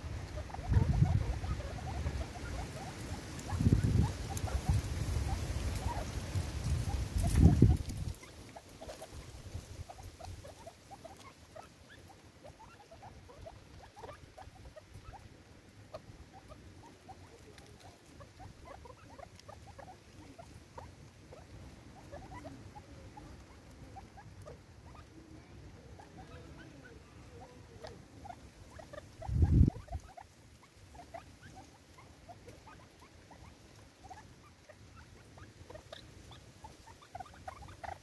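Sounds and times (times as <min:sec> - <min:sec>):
birds pecking seed on wood: 0:00.0 - 0:38.0.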